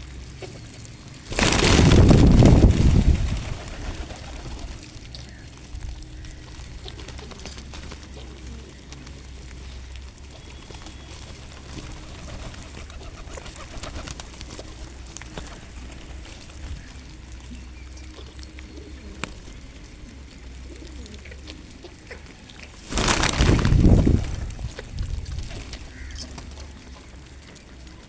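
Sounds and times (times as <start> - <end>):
pigeons cooing: 0.2 - 28.0.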